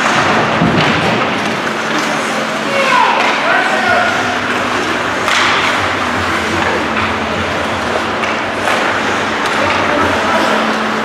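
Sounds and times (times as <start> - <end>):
game din in a large hall: 0.0 - 11.0.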